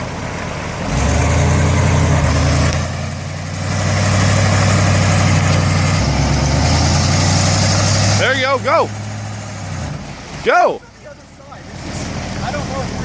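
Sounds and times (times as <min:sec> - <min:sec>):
car engine pulling under throttle: 0:00.0 - 0:13.0.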